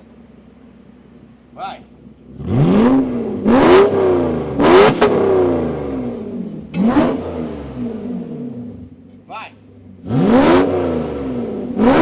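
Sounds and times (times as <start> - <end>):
car engine revving: 0.0 - 12.0
exhaust cracks: 0.0 - 12.0.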